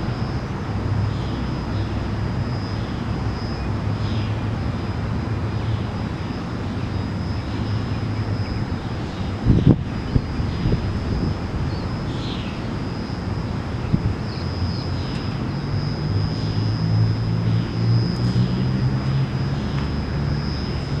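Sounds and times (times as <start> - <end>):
faint high-pitched whine: 0.0 - 21.0
low engine drone: 0.0 - 21.0.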